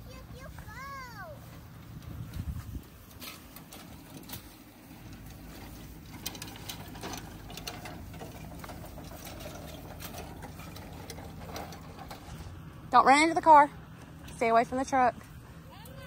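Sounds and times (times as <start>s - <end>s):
cart rattling and clicking: 0.0s - 16.0s.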